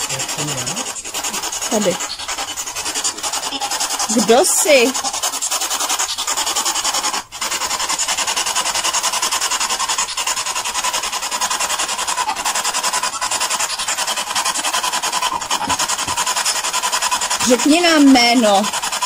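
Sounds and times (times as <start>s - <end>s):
pulsing radio static hiss: 0.0s - 19.0s.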